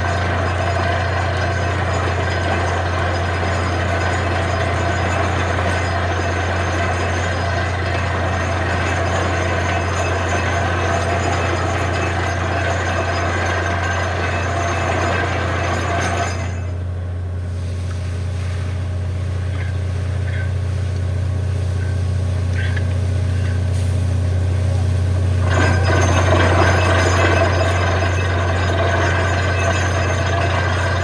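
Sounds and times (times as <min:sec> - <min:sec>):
drilling rig engine humming: 0:00.0 - 0:31.0.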